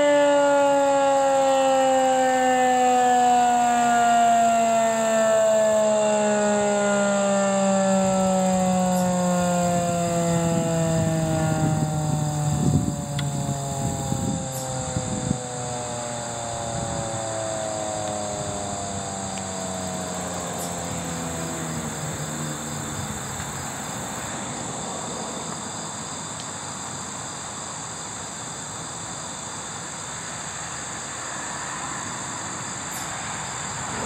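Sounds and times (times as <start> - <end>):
warning siren winding down: 0.0 - 25.8, 31.0 - 34.0
insects chirping: 0.0 - 34.0.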